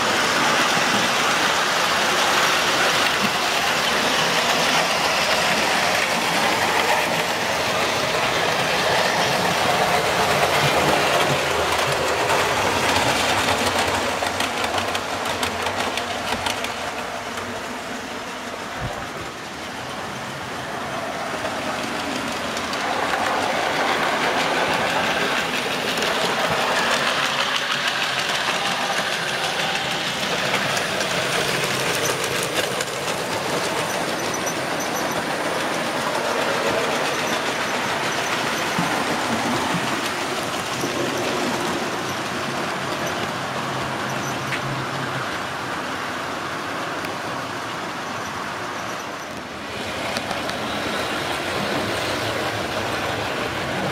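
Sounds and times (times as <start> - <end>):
model train wheels rolling on rails: 0.0 - 53.9.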